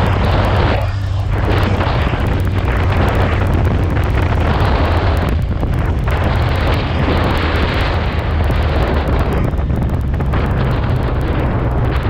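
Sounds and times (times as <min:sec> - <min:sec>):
motorcycle engine drone: 0:00.0 - 0:12.0
wind buffeting microphone: 0:00.0 - 0:12.0.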